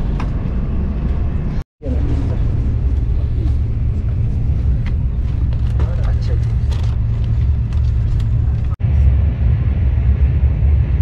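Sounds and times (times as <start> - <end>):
train cabin rumble: 0.0 - 9.0.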